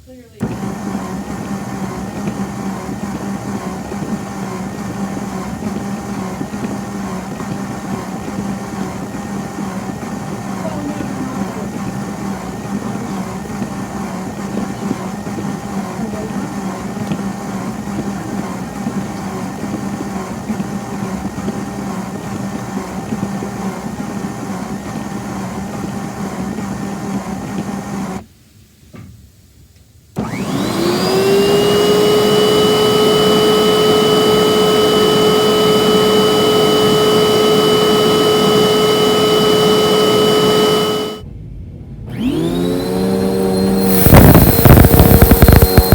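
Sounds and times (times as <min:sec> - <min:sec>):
high-pitched vacuum motor whine: 0:00.0 - 0:28.2, 0:30.2 - 0:41.2, 0:42.1 - 0:45.9
vacuum cleaner motor running: 0:00.0 - 0:28.2, 0:30.2 - 0:41.2, 0:42.1 - 0:45.9.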